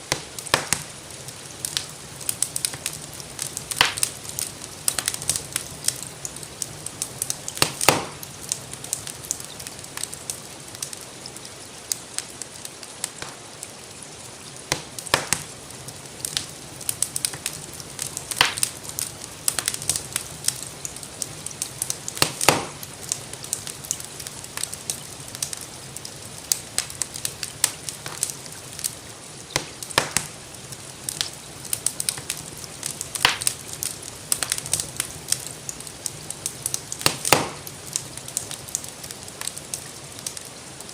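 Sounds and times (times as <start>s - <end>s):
sharp fire pops: 0.0s - 13.6s, 14.4s - 40.9s
gentle rain hiss: 0.0s - 40.9s
wood fire crackling: 0.0s - 40.9s.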